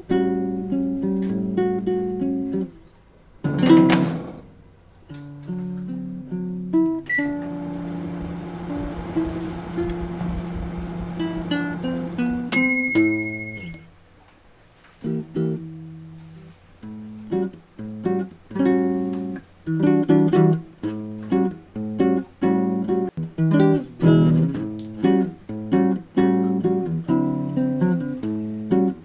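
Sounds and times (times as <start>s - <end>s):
acoustic guitar music: 0.0s - 2.8s, 3.4s - 13.9s, 15.0s - 29.0s.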